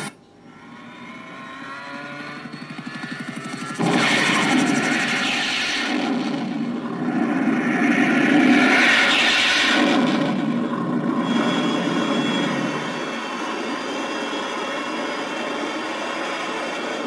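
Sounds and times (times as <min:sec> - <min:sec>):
engine drone: 0:00.0 - 0:17.0
thin high whine: 0:00.0 - 0:17.0
jet engine rushing surge: 0:02.7 - 0:17.0.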